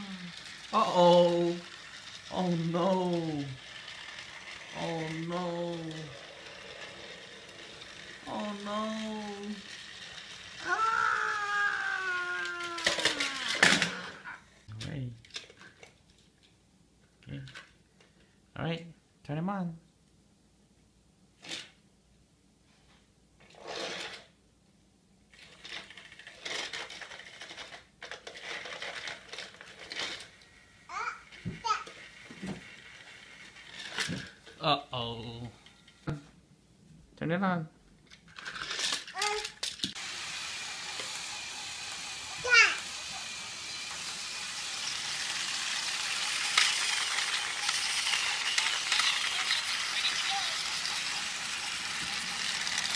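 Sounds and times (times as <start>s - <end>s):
toy train motor clattering: 0.0s - 14.4s, 15.2s - 16.2s, 17.4s - 17.8s, 21.4s - 21.8s, 23.4s - 24.3s, 25.3s - 36.1s, 38.1s - 52.9s.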